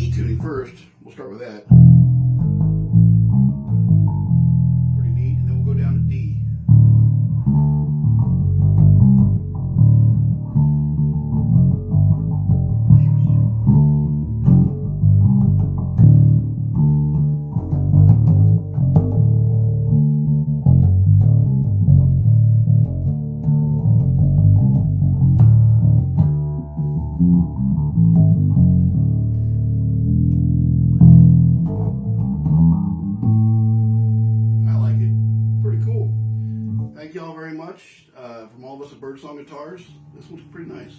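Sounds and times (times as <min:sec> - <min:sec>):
electric bass plucked notes: 0:00.0 - 0:00.8, 0:01.7 - 0:37.6.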